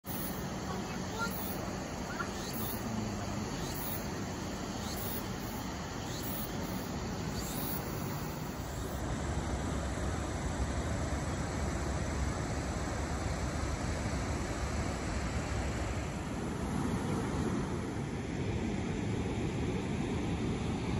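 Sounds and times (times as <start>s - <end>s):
water rushing down dam: 0.0s - 19.1s.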